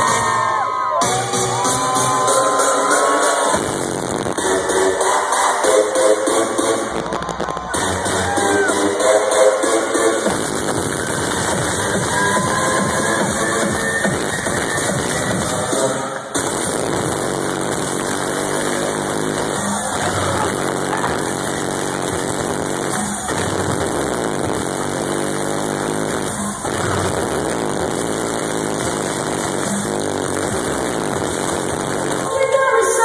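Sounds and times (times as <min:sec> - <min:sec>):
electronic dance music: 0:00.0 - 0:33.0.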